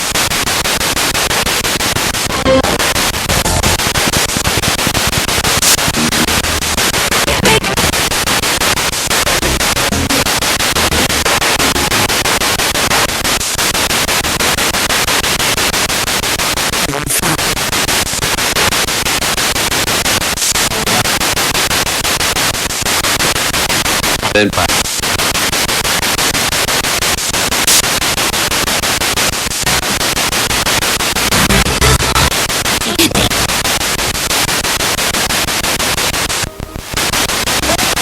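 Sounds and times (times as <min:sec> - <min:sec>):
radio static sweeping: 0:00.0 - 0:15.2, 0:19.7 - 0:38.0
snatches of broadcast sound: 0:00.0 - 0:38.0.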